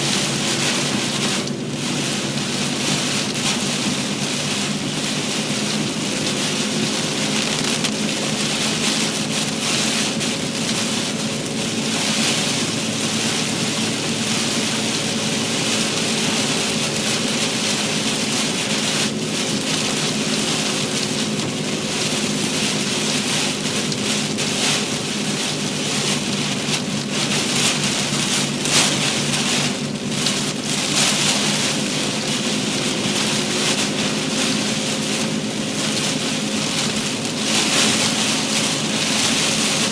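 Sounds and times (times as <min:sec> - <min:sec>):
engine and road hum: 0:00.0 - 0:39.9
heavy rain on car roof: 0:00.0 - 0:39.9.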